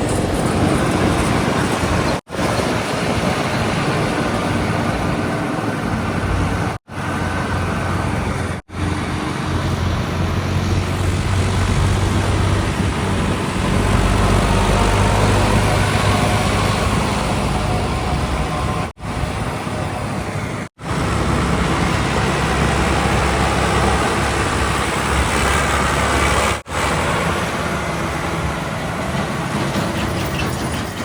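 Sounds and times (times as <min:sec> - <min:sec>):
diesel engines of heavy machinery: 0:00.0 - 0:31.0
deep engine rumble: 0:03.2 - 0:29.6.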